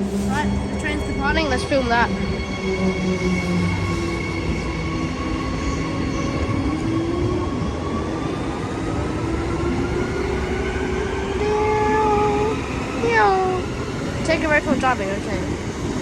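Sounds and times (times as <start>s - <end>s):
low train rumble: 0.0s - 16.0s.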